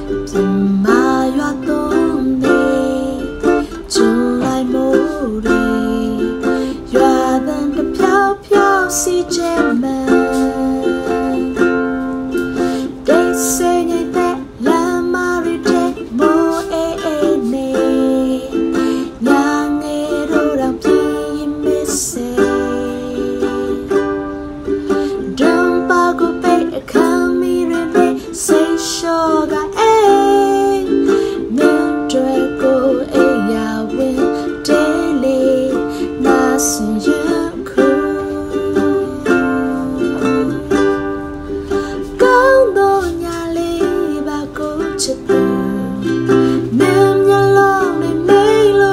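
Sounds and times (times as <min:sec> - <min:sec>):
ukulele strumming chords: 0:00.0 - 0:48.9
woman singing: 0:00.0 - 0:48.9.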